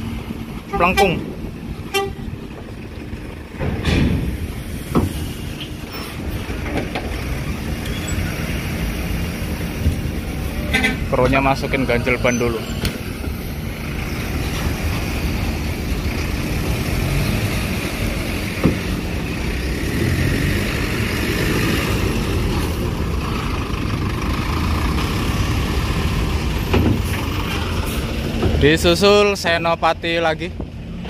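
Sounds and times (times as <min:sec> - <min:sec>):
bus engine low rumble: 0:00.0 - 0:31.0.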